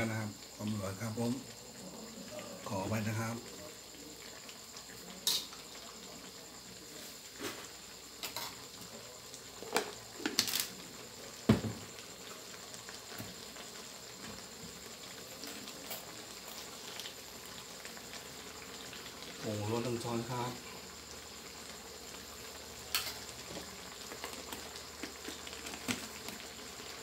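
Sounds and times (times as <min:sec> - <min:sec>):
curry simmering with bubbling hiss: 0:00.0 - 0:27.0.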